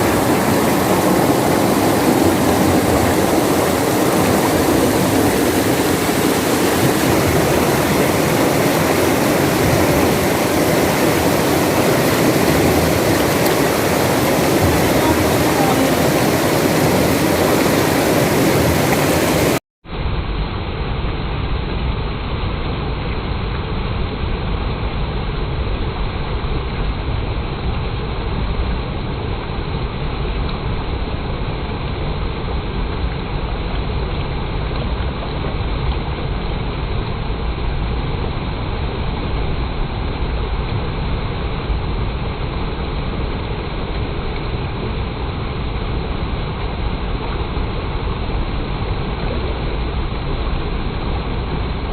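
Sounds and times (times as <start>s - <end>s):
low water rumble: 0.0s - 51.9s
water rushing: 0.0s - 51.9s.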